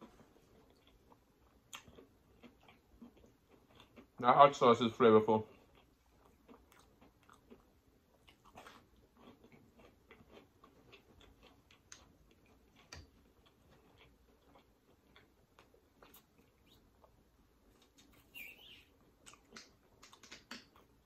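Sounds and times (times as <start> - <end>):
close-up chewing: 0.0 - 4.3, 5.4 - 21.0.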